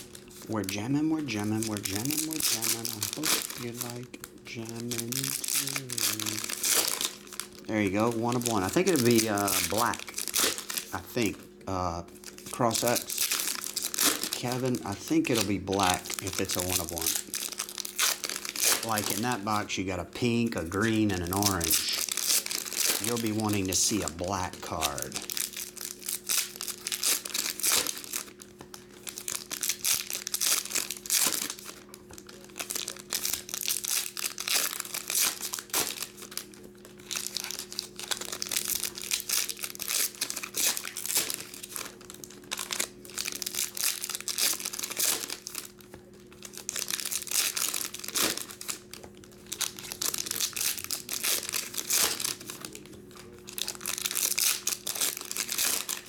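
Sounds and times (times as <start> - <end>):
faint steady hum: 0.0 - 56.0
foil wrappers crinkling and tearing: 0.0 - 56.0.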